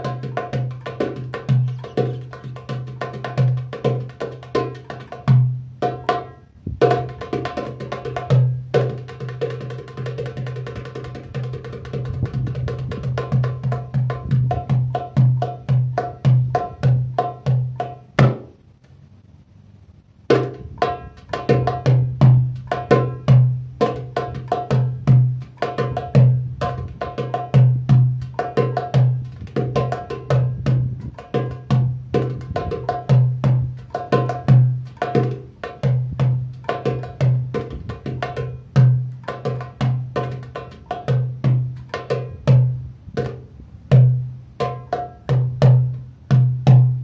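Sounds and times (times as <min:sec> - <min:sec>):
goblet drum rhythm: 0:00.0 - 0:18.5, 0:20.3 - 0:47.0.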